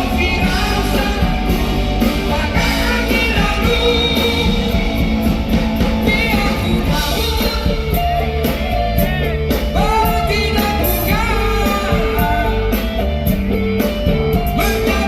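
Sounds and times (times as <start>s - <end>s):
person singing: 0.0s - 13.4s, 14.1s - 15.0s
bass: 0.0s - 15.0s
drums: 0.0s - 15.0s
guitar: 0.0s - 15.0s.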